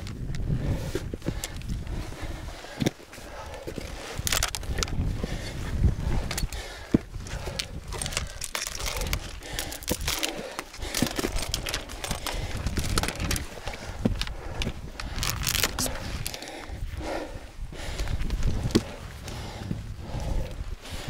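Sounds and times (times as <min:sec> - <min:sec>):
boots clicking and scraping on rock: 0:00.0 - 0:16.8, 0:17.8 - 0:21.0
low wind rumble on microphone: 0:00.0 - 0:21.0.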